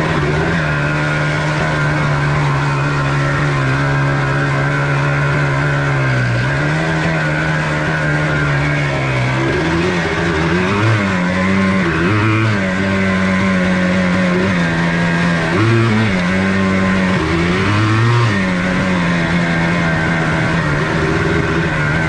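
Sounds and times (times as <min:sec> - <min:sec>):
two-stroke engine running: 0:00.0 - 0:22.0.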